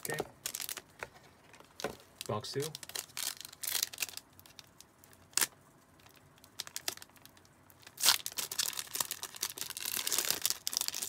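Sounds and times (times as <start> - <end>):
foil wrapper crackling: 0.0 - 0.9, 1.6 - 11.0
foil wrapper crinkling: 0.0 - 11.0.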